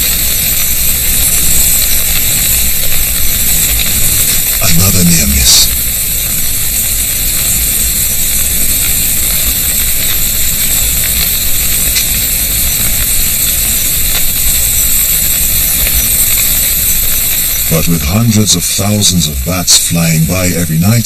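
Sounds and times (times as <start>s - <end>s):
bat swarm wings and calls: 0.0s - 20.6s.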